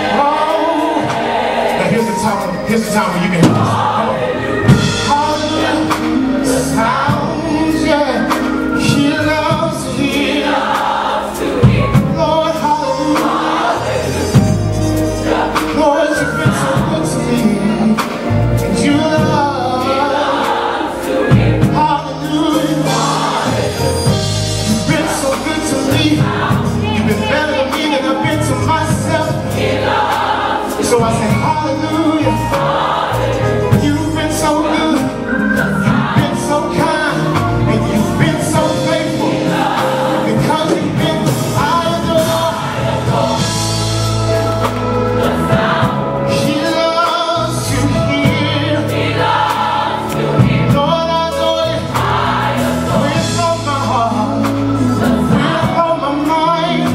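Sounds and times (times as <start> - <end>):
gospel choir singing: 0.0 - 56.9
bass and drums: 1.1 - 20.1, 21.2 - 56.9.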